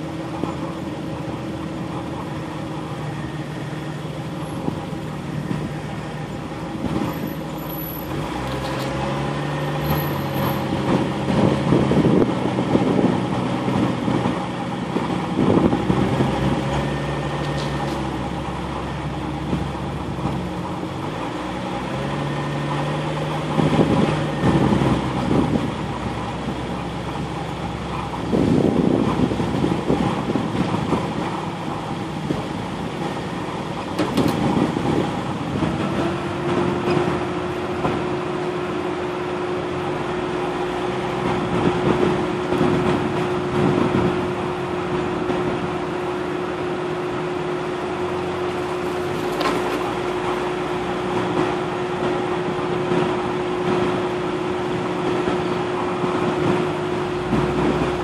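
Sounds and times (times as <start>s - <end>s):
off-road vehicle engine running: 0.0s - 58.0s
vehicle jolts and rattles: 0.0s - 58.0s.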